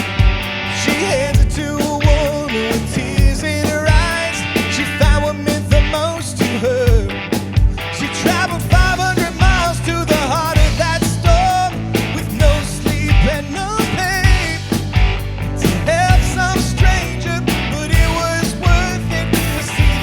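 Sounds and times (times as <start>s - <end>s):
rock band playing: 0.0s - 20.0s
steady drum beat: 0.0s - 20.0s
person singing: 0.7s - 7.2s, 7.9s - 14.8s, 15.6s - 20.0s.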